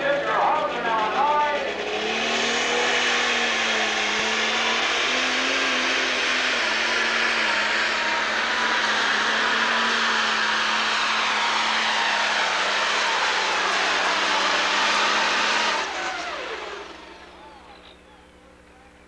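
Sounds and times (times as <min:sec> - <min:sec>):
diesel engine at full power: 0:00.0 - 0:19.0.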